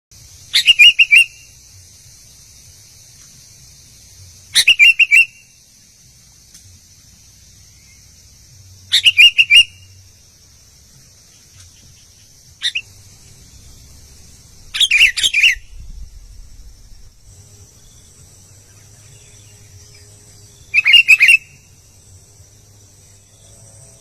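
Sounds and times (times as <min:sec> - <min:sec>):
steady high hiss: 0:00.1 - 0:24.0
bird singing whistled notes: 0:00.3 - 0:02.6, 0:04.1 - 0:05.8, 0:07.4 - 0:10.1, 0:11.2 - 0:24.0.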